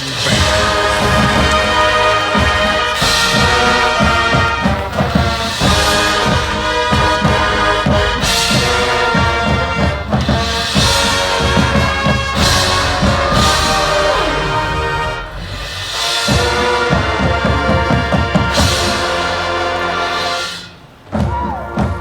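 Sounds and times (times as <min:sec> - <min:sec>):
brass chords: 0:00.0 - 0:22.0
percussion hits: 0:00.0 - 0:22.0.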